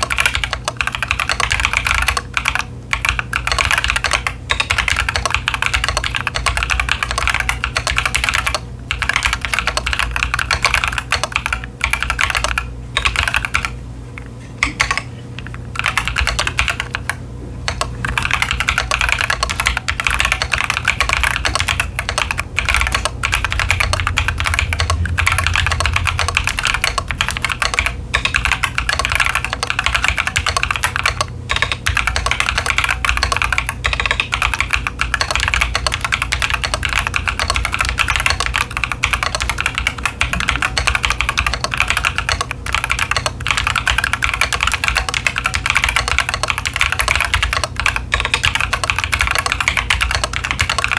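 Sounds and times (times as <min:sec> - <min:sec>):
mechanical keyboard typing: 0:00.0 - 0:13.8, 0:14.6 - 0:50.9.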